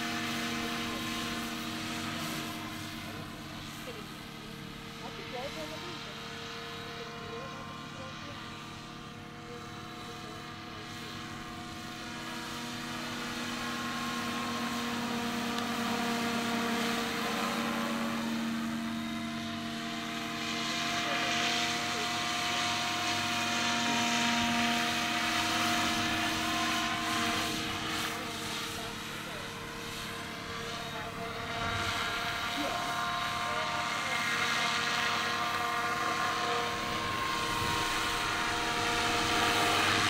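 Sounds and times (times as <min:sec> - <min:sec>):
model helicopter flying: 0:00.0 - 0:40.0.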